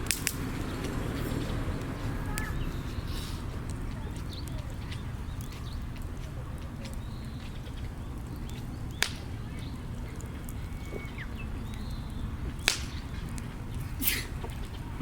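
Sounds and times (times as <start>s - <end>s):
burning log popping: 0.0s - 15.0s
campfire burning low rumble: 0.0s - 15.0s
faint fire crackles: 0.0s - 15.0s.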